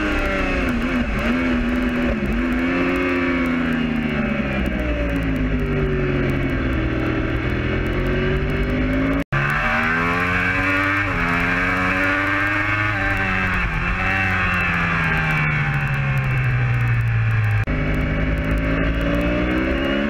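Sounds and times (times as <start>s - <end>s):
motorcycle engine at racing speed: 0.0s - 20.0s.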